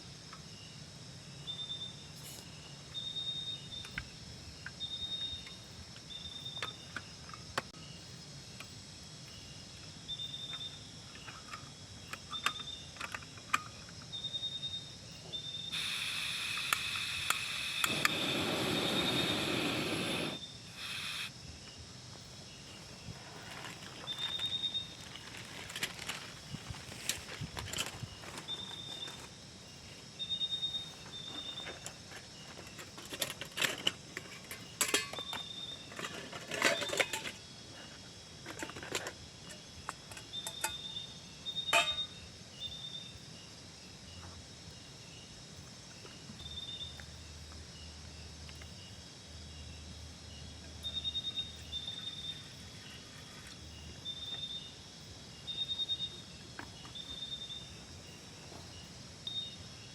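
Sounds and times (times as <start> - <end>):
insect chirping: 0.0 - 59.9
outdoor hiss: 0.0 - 59.9.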